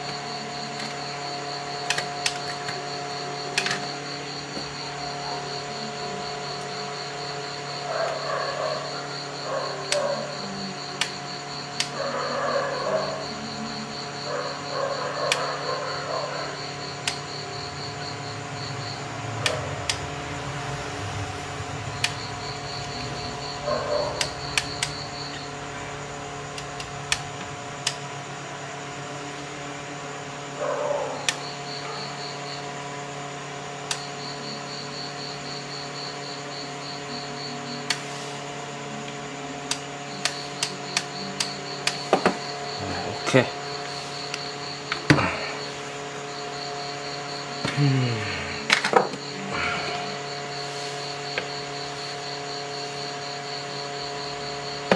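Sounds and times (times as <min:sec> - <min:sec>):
steady hum: 0:00.0 - 0:54.9.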